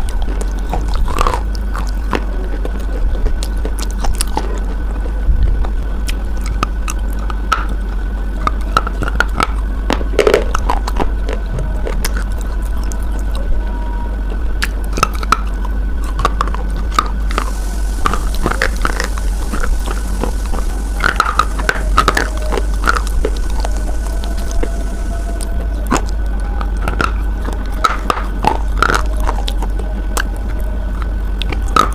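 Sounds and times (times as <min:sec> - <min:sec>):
crunching and chewing: 0:00.0 - 0:31.9
low hum: 0:00.0 - 0:31.9.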